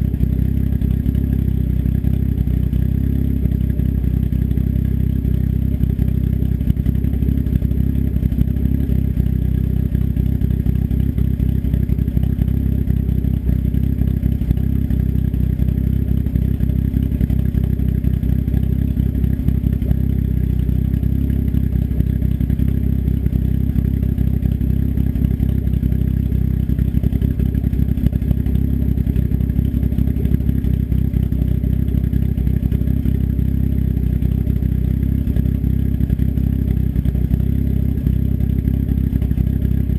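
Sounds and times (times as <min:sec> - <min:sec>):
car engine idling with loud exhaust: 0:00.0 - 0:39.9.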